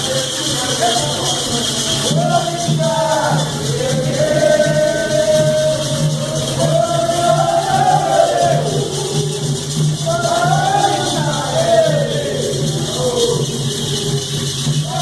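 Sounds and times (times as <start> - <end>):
shaken percussion: 0.0 - 15.0
voices singing a chant: 0.0 - 15.0.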